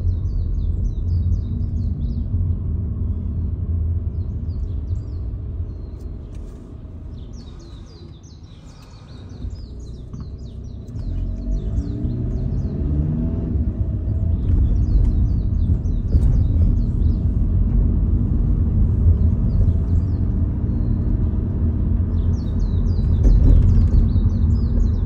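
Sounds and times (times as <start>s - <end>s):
birds chirping: 0.0s - 25.0s
car engine and tyres rumbling: 0.0s - 25.0s.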